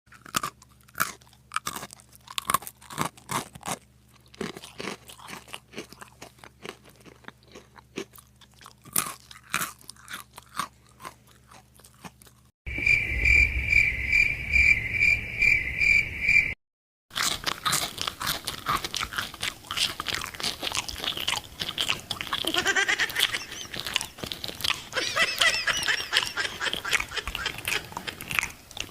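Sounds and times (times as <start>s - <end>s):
crunching and chewing: 0.1s - 12.5s, 17.1s - 28.9s.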